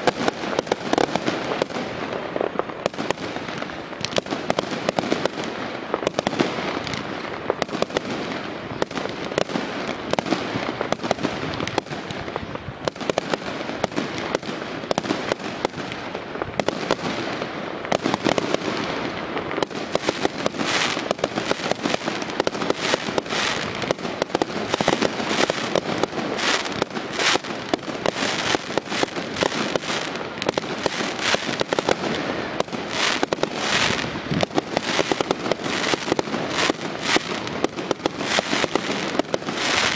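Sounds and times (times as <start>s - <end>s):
fireworks crackling: 0.0s - 39.9s
fireworks shells bursting bangs: 0.0s - 39.9s.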